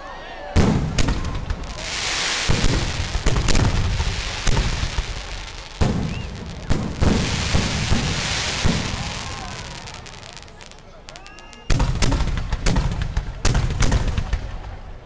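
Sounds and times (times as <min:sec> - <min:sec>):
fireworks bangs and booms: 0:00.6 - 0:15.0
fireworks crackling hiss: 0:00.8 - 0:14.5.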